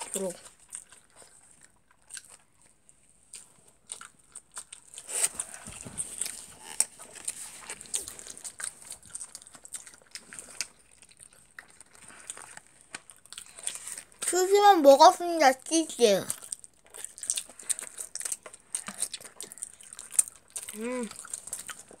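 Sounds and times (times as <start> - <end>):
person chewing food: 0.0 - 14.3, 16.3 - 22.0.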